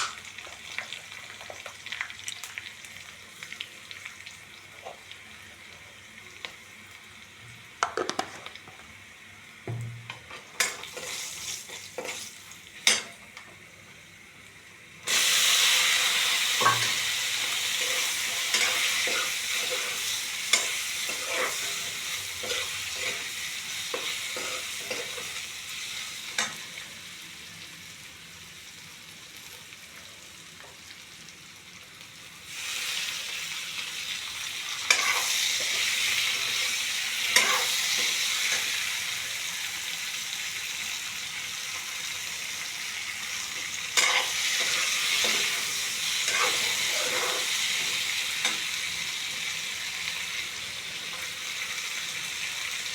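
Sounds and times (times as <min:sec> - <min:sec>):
food sizzling in hot oil: 0:00.0 - 0:52.9.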